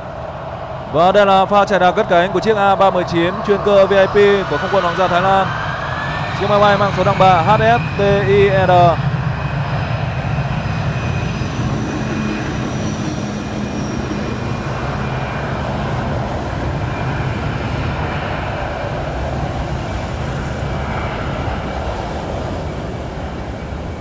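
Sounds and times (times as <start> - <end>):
jet engines rumbling at takeoff: 0.0 - 24.0.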